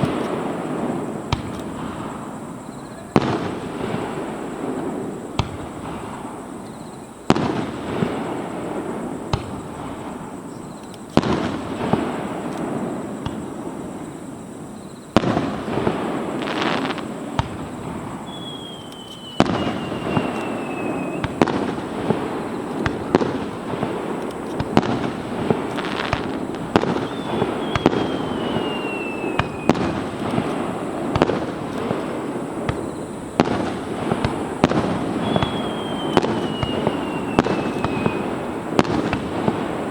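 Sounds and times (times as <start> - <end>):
falling firework whistle: 0.0 - 39.9
fireworks booming: 0.0 - 39.9
fireworks crackling: 0.0 - 39.9.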